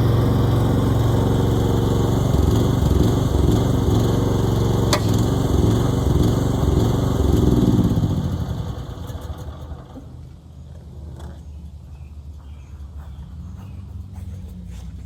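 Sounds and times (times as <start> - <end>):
excavator engine running and winding down: 0.0 - 15.0.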